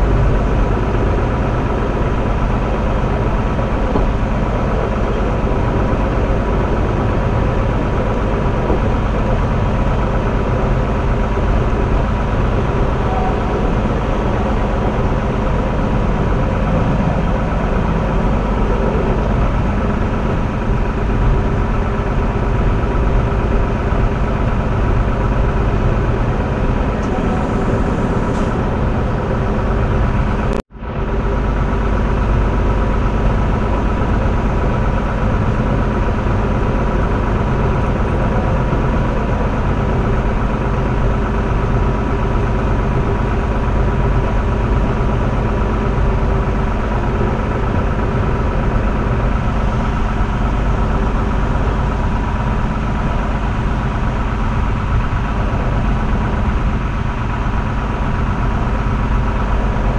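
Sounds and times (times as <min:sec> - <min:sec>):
motor hum: 0:00.0 - 0:59.9
train rumbling on track: 0:00.0 - 0:59.9.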